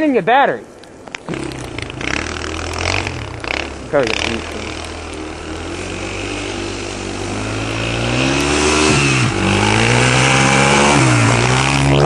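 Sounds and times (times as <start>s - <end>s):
quad engine revving: 1.2s - 12.0s.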